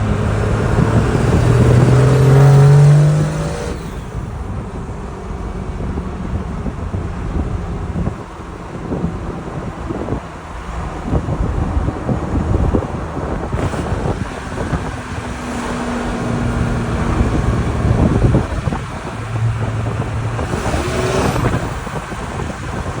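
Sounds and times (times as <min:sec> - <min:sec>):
diesel engine running loudly: 0:00.0 - 0:08.1, 0:11.2 - 0:23.0
wind noise on microphone: 0:00.0 - 0:23.0.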